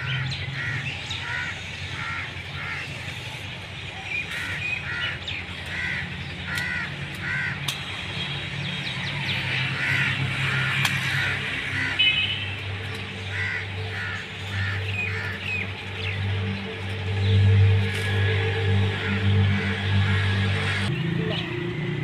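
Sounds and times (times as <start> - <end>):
crows cawing: 0.0 - 3.2, 4.3 - 7.9, 9.5 - 20.9.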